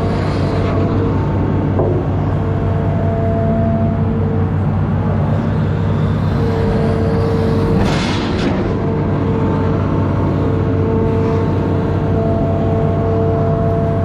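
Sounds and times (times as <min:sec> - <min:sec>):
diesel engine running: 0:00.0 - 0:14.0
whining tones: 0:00.0 - 0:14.0.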